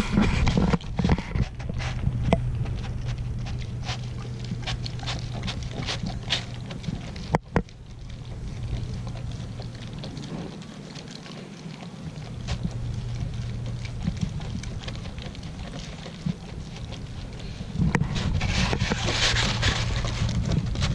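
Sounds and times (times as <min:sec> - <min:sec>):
dog licking and chewing: 0:00.0 - 0:20.9
steady low hum: 0:00.0 - 0:20.9.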